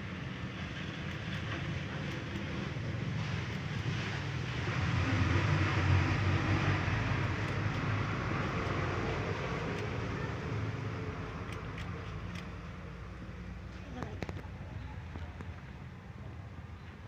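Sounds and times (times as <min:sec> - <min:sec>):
low engine-like rumble: 0:00.0 - 0:17.0.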